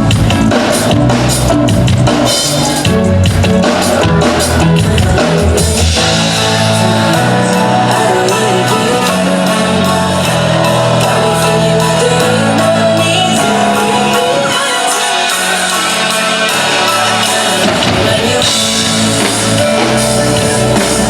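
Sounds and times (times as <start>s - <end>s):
drums: 0.0s - 21.0s
guitar chords: 0.0s - 21.0s
person singing: 2.3s - 21.0s.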